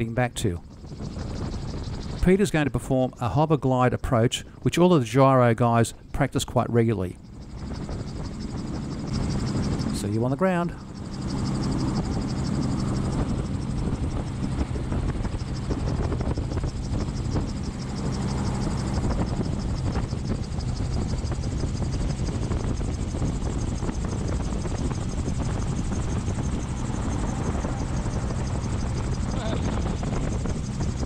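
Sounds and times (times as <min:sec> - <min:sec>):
gyroplane engine and rotor: 0:00.0 - 0:31.0.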